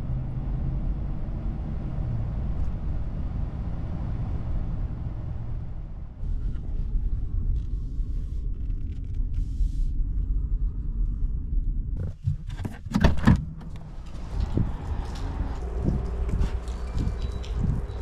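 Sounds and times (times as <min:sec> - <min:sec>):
engine and road rumble: 0:00.0 - 0:18.0
low hum: 0:00.0 - 0:18.0.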